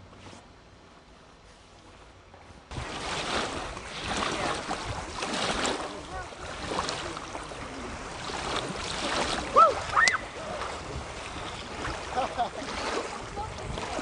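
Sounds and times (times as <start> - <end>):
water splashing around kayaks: 0.0 - 14.0
wind buffeting microphone: 2.7 - 14.0.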